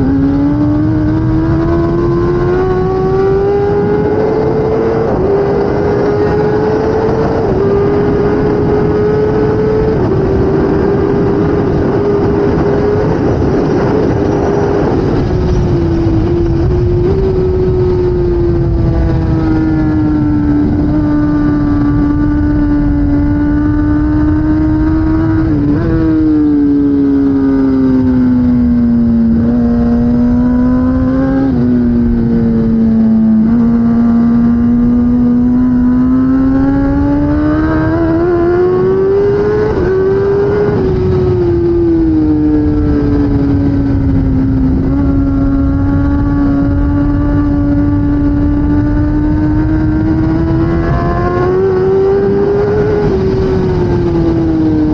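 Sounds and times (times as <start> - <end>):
motorcycle engine at high revs: 0.0 - 54.9
rush of noise: 0.0 - 54.9.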